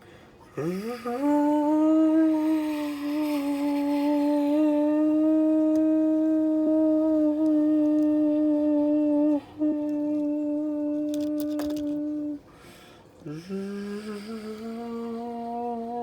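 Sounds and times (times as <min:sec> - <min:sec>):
person humming engine noise: 0:00.5 - 0:12.6, 0:13.2 - 0:16.0.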